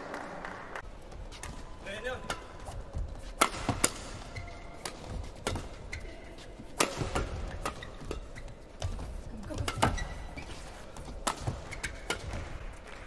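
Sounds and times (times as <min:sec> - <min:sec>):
rackets hitting shuttlecock: 0:01.4 - 0:13.0.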